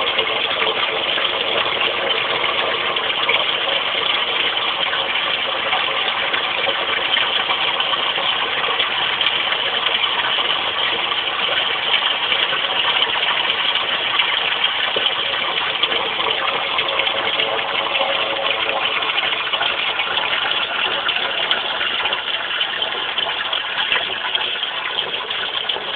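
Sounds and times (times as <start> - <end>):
pumped water noise: 0.0 - 25.9
sump pump motor hum: 0.0 - 25.9.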